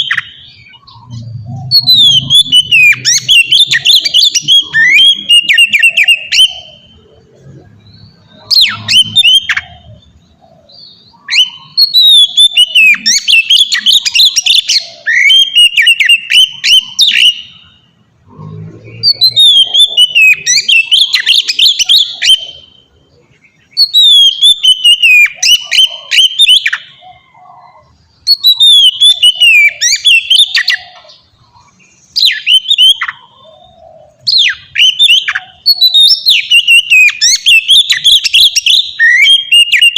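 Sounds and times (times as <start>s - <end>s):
bird singing whistles and trills: 0.0s - 18.0s, 18.8s - 39.9s.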